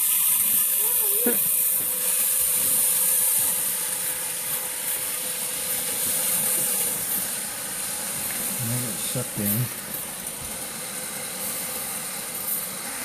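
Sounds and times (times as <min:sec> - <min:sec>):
garbage disposal threshing oats: 0:00.0 - 0:13.0.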